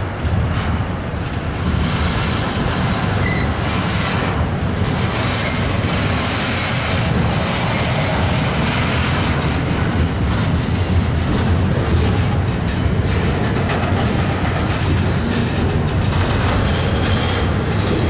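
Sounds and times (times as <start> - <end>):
train wheels rumbling and rattling: 0.0 - 18.0.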